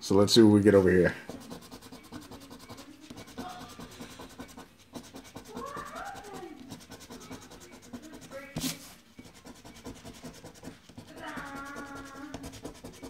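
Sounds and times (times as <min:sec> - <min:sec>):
coin scratching lottery ticket: 0:01.0 - 0:13.0.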